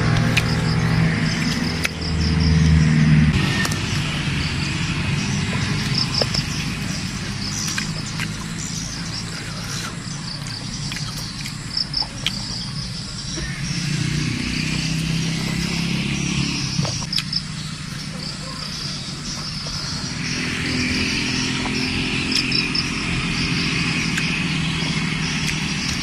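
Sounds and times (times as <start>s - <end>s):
crunchy apple bites: 0.0s - 2.8s, 5.3s - 18.4s, 19.2s - 26.0s
insects chirping: 0.0s - 26.0s
low motor hum: 0.0s - 26.0s.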